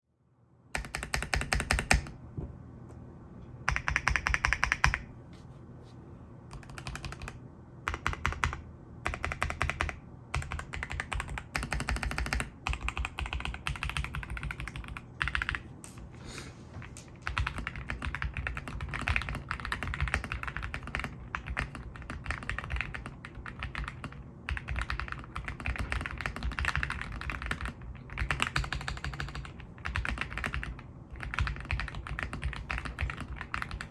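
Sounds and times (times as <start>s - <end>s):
mechanical keyboard typing: 0.7s - 2.1s, 3.7s - 5.1s, 6.5s - 15.6s, 17.1s - 33.9s.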